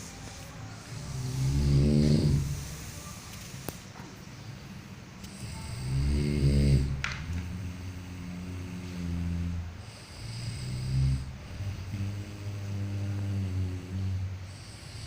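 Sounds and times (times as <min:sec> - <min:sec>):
person snoring: 0:00.0 - 0:03.2, 0:05.3 - 0:15.0.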